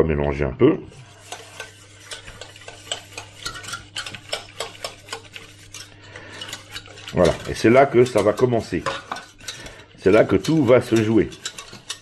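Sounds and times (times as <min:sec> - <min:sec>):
wire whisk scraping a saucepan: 0:00.9 - 0:12.0.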